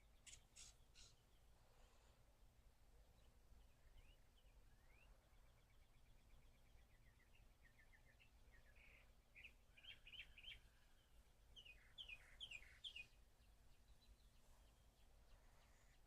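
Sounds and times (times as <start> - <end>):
bird chirping: 0.0 - 1.6, 3.0 - 16.0.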